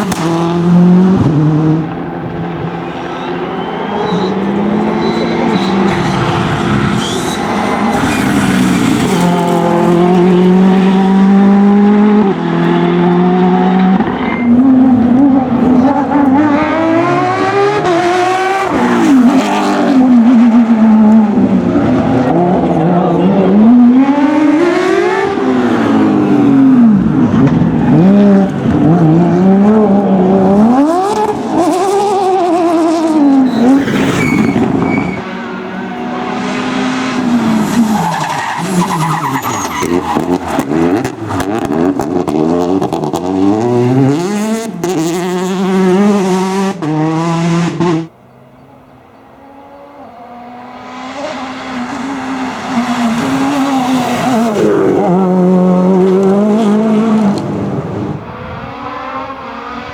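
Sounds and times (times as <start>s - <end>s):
rally car engine revving: 0.0s - 48.3s, 49.2s - 59.9s.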